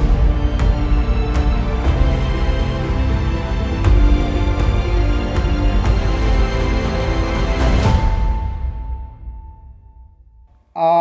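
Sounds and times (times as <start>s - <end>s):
cinematic background music: 0.0s - 10.5s.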